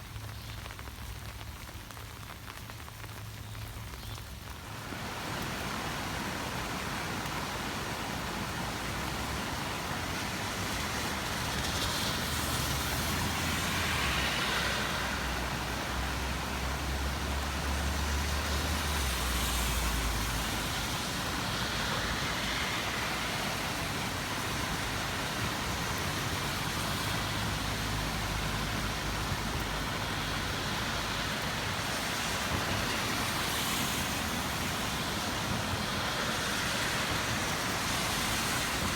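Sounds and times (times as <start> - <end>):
rain hiss: 0.0 - 38.9
traffic on wet pavement: 0.0 - 38.9.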